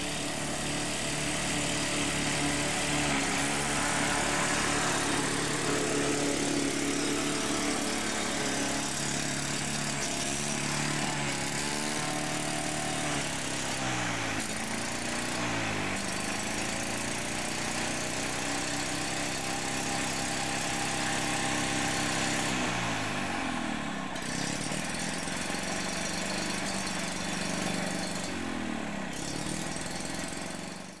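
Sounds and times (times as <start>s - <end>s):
lawn mower engine mowing grass: 0.0s - 31.0s.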